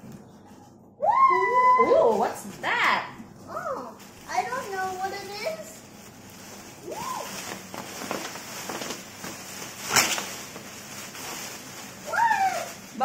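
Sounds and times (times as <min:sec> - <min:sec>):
plastic air cushions crinkling: 0:01.8 - 0:13.0.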